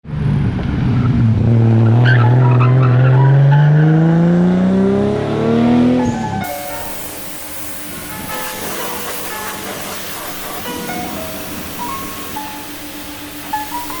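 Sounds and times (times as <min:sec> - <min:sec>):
turbocharged engine accelerating: 0:00.0 - 0:14.0.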